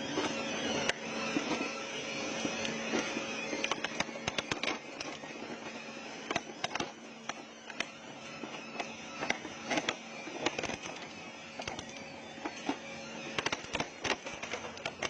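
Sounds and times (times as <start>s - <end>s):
shredder machine humming: 0.0s - 15.0s.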